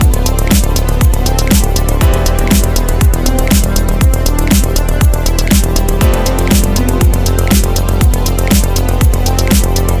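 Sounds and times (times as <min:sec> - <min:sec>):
electronic dance music: 0:00.0 - 0:10.0
heavy kick drums: 0:00.0 - 0:10.0
hi-hats: 0:00.0 - 0:10.0.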